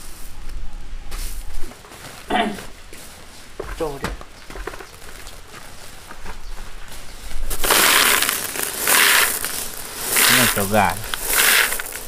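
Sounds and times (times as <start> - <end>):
dry corn crunching rustle: 1.6 - 12.0.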